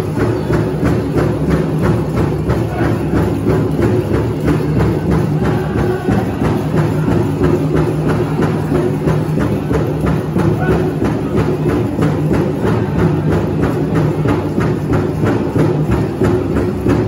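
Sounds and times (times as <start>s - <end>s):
big drum beating: 0.0s - 17.0s.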